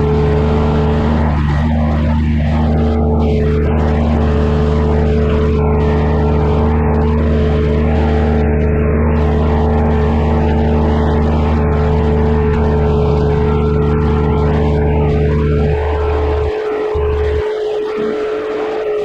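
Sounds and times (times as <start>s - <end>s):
earthmoving machine engine running: 0.0s - 19.0s.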